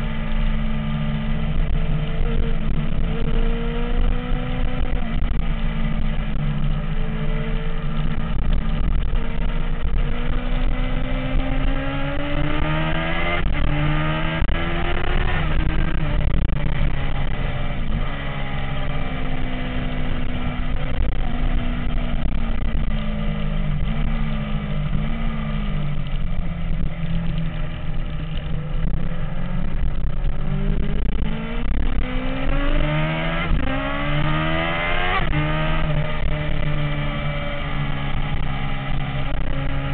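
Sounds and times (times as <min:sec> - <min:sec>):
motorcycle engine revving: 0:00.0 - 0:39.9
steady rush of noise: 0:00.0 - 0:39.9.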